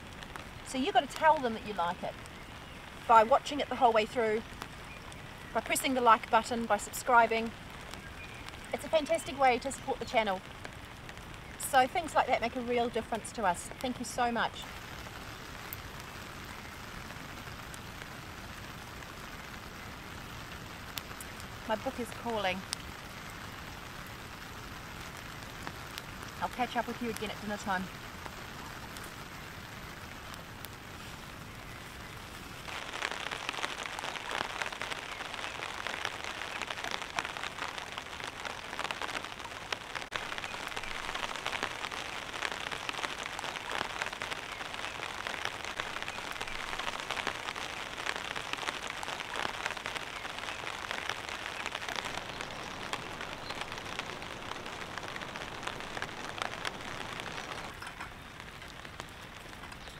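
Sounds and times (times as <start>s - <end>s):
rain on a tarp: 0.0s - 59.9s.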